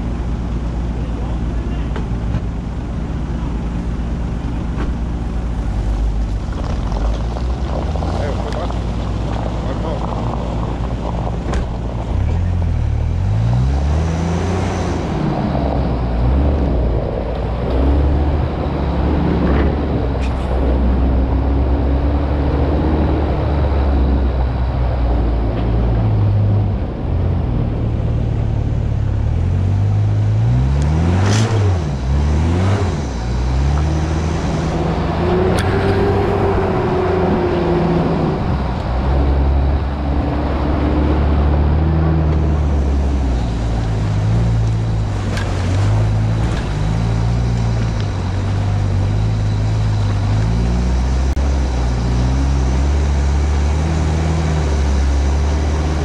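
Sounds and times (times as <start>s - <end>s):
engine revving: 5.9s - 56.0s.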